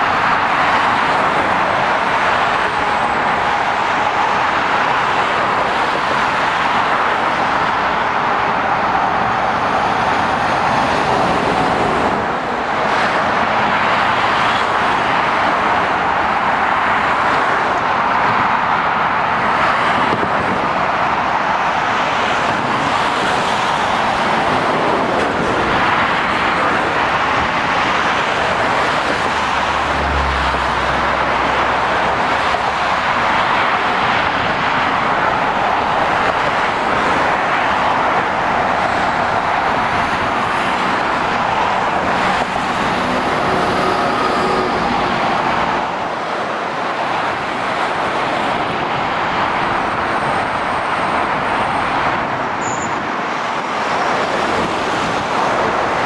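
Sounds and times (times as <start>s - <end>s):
busy road traffic passing: 0.0s - 56.0s.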